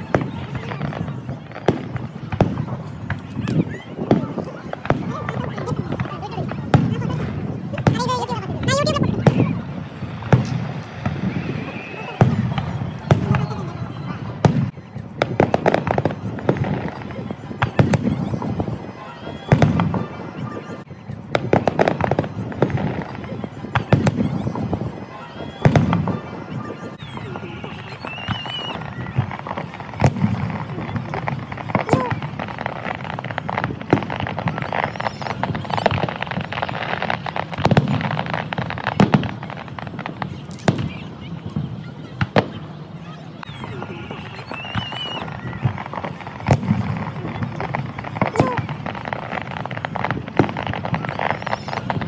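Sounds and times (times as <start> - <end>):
rapid firework crackling: 0.0 - 52.0.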